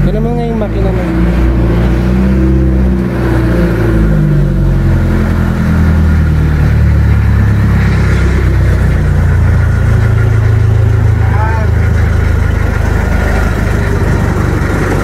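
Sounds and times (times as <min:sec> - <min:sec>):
diesel boat engine idling: 0:00.0 - 0:15.0.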